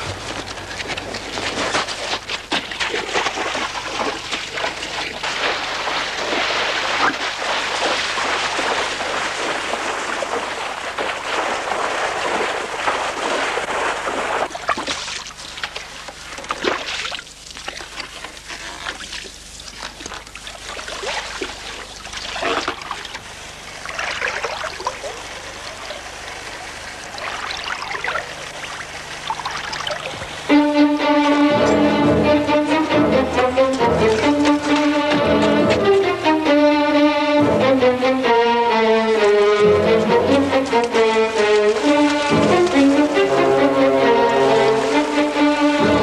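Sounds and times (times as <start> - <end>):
water splashing and sloshing: 0.0 - 38.2, 38.9 - 46.0.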